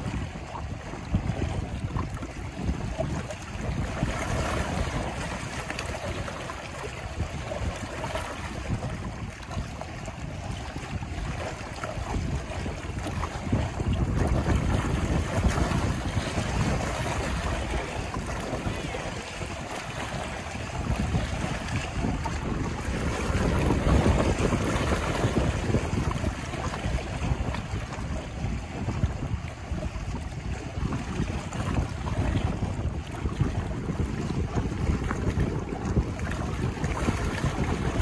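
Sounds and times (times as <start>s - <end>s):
waves splashing against rocks: 0.0s - 38.0s
wind gusting on microphone: 0.0s - 38.0s.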